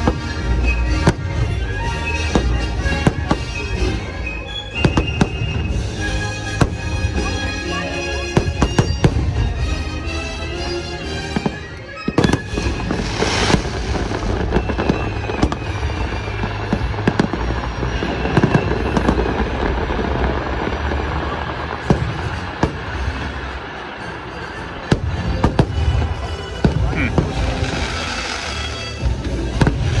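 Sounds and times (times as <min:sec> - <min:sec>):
fireworks bangs and crackling: 0:00.0 - 0:30.0
music: 0:00.0 - 0:30.0.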